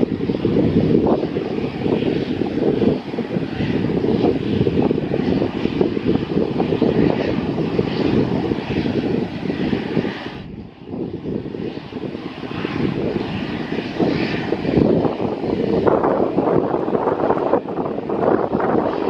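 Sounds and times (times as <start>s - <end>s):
aircraft engine: 0.0s - 19.0s
wind buffeting microphone: 0.0s - 19.0s.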